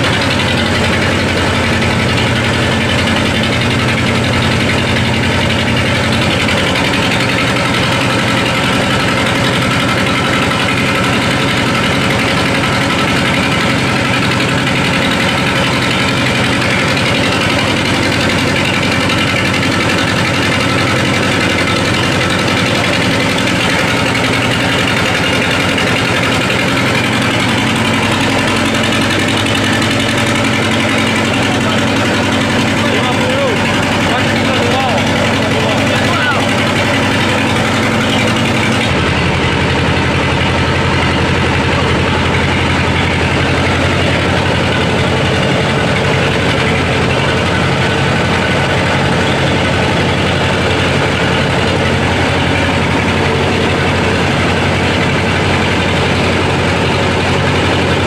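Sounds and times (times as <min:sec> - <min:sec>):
diesel engine running: 0:00.0 - 0:58.0
rice huller milling: 0:00.0 - 0:58.0.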